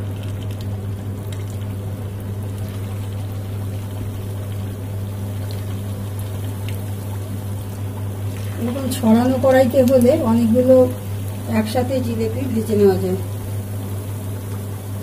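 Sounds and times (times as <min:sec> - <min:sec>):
steady low hum: 0:00.0 - 0:15.0
food sizzling in hot oil: 0:01.0 - 0:15.0.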